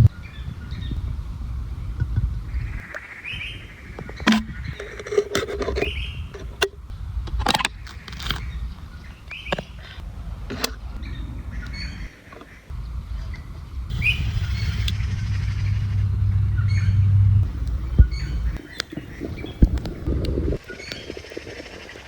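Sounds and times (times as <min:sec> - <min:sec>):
birds chirping: 0:00.0 - 0:05.2, 0:05.8 - 0:22.0
low outdoor rumble: 0:00.0 - 0:22.0.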